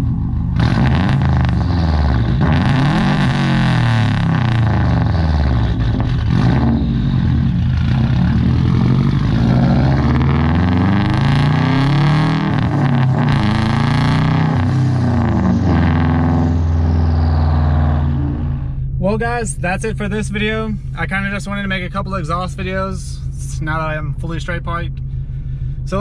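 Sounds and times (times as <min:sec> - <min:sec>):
car engine and exhaust revving: 0:00.0 - 0:26.0.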